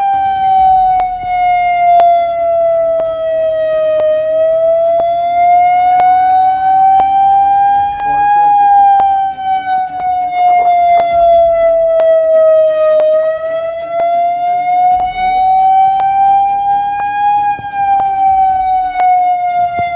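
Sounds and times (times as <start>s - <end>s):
air-raid siren wailing: 0.0s - 19.9s.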